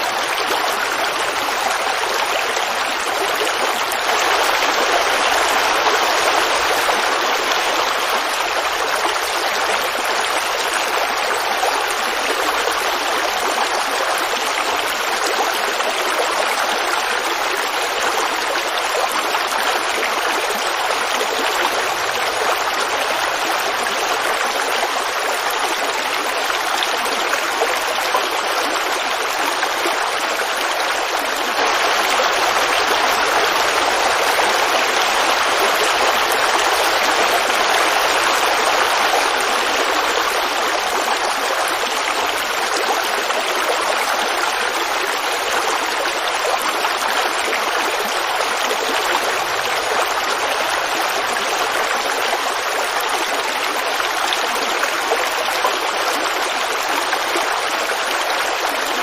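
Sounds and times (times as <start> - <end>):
creek babbling: 0.0 - 59.0.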